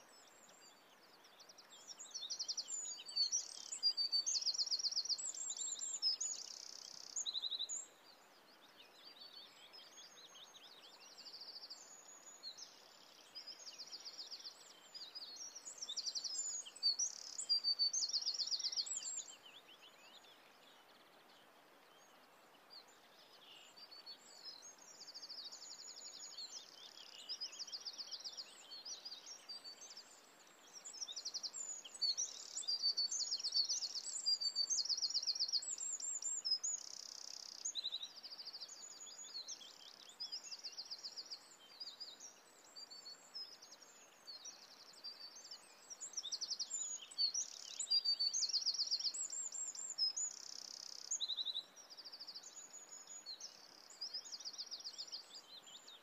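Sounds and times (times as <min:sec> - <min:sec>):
faint steady background noise: 0:00.0 - 0:56.0
small birds singing: 0:00.0 - 0:56.0.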